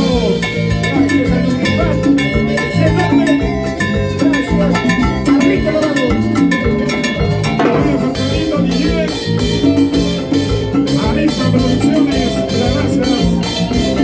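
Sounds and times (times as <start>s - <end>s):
bass line: 0.0s - 14.0s
percussion: 0.0s - 14.0s
salsa band playing: 0.0s - 14.0s.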